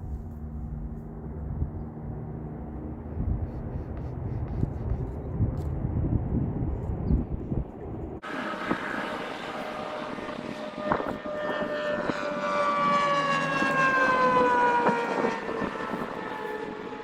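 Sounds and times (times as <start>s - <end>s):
propeller airplane flying over: 0.0s - 17.0s.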